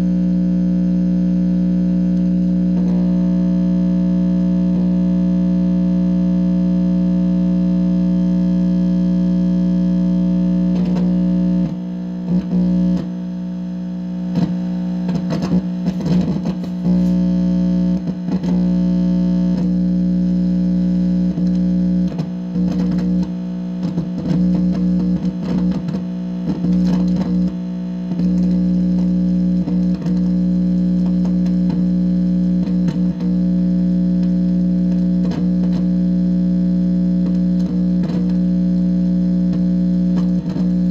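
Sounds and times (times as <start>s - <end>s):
electronic buzz through amplifier: 0.0s - 40.9s.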